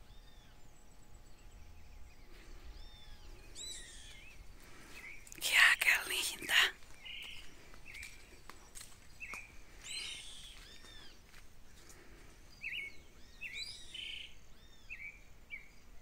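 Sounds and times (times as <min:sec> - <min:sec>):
bird chirps: 0:00.0 - 0:11.4, 0:12.5 - 0:16.0
countryside background hiss: 0:00.0 - 0:16.0.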